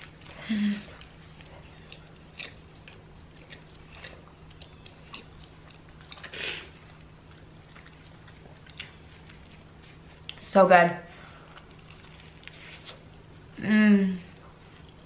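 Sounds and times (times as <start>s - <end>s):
person chewing with wet smacks: 0.0s - 10.4s, 11.3s - 13.3s.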